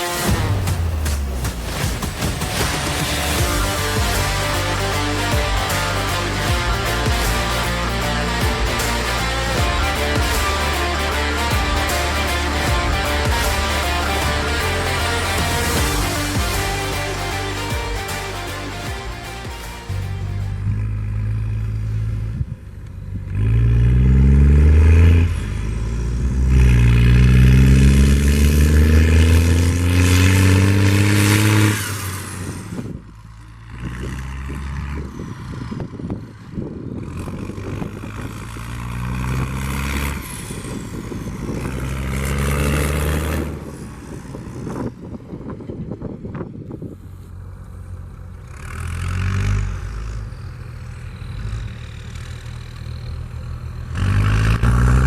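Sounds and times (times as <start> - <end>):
tractor diesel engine revving: 0.0 - 45.7, 47.0 - 55.0.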